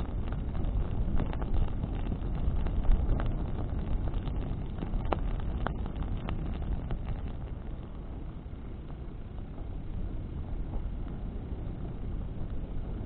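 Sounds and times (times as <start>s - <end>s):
burning branches crackling: 0.0s - 13.0s
wind and flame rumble: 0.0s - 13.0s.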